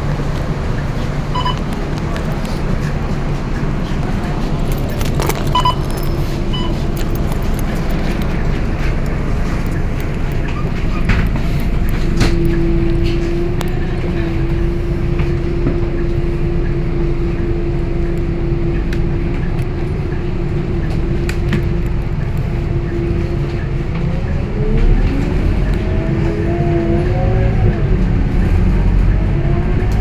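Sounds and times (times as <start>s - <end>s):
bus diesel engine rumble: 0.0s - 30.0s
drivetrain whine: 0.0s - 30.0s.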